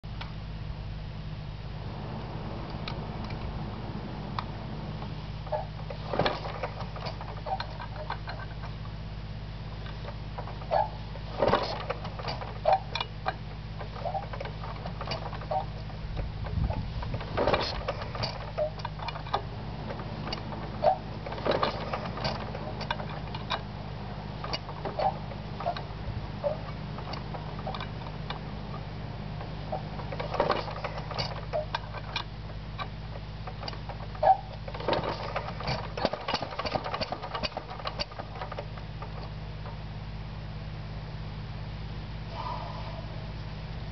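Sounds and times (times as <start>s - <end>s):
steady low hum: 0.0s - 43.9s
engine crank clicks and knocks: 1.8s - 40.1s.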